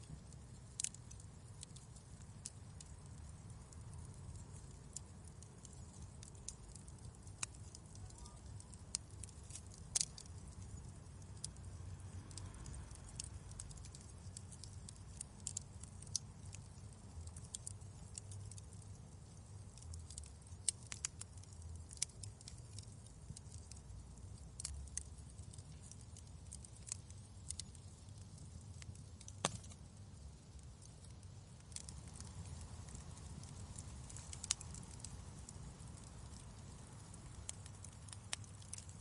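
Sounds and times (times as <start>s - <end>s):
fire pops and snaps: 0.0s - 39.0s
low rumble of flames: 0.0s - 39.0s.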